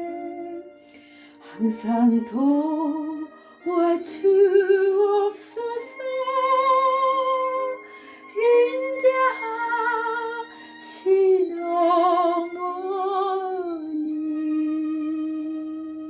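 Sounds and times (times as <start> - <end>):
soft sustained instrumental accompaniment: 0.0 - 16.0
woman singing a slow hymn: 0.0 - 16.0.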